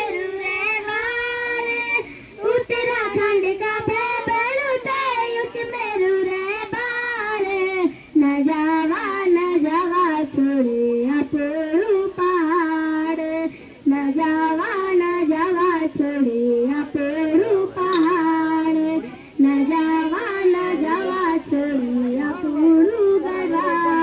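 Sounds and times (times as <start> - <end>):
girl singing into microphone: 0.0 - 24.0.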